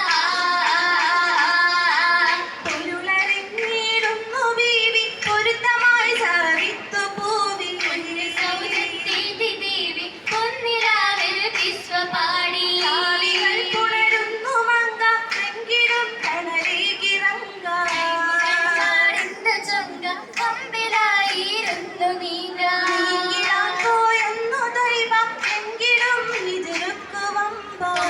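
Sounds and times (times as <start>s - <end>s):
girls singing: 0.0s - 28.0s.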